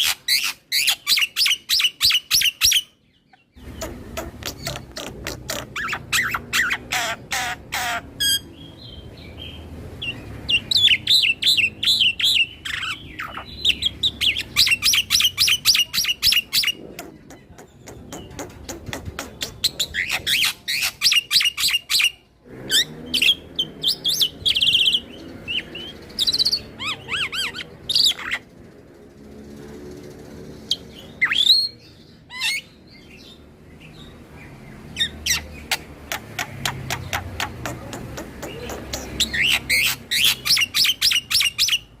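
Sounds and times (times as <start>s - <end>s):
starling singing: 0.0s - 28.7s, 34.8s - 42.0s.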